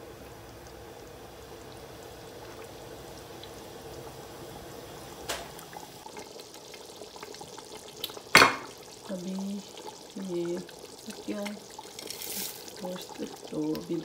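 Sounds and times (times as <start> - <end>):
gravy bubbling in a pot: 0.0 - 14.0.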